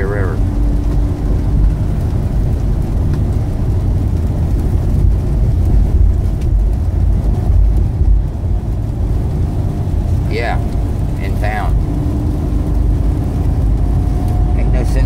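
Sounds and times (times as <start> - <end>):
truck engine rumble: 0.0 - 15.0
tyres on wet road: 0.0 - 15.0.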